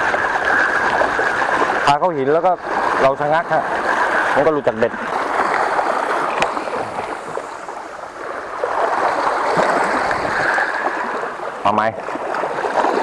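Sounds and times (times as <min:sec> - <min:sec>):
sea water surging among rocks: 0:00.0 - 0:13.0.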